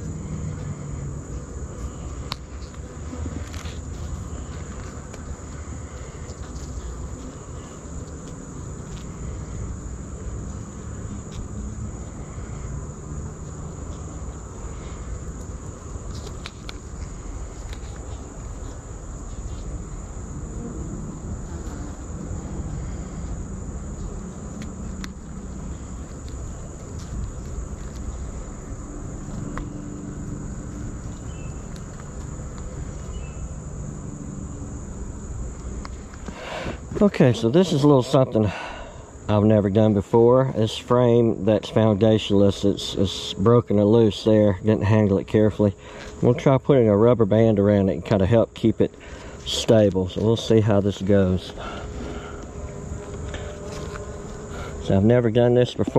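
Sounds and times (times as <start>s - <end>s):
honey bees buzzing: 0.0s - 55.9s.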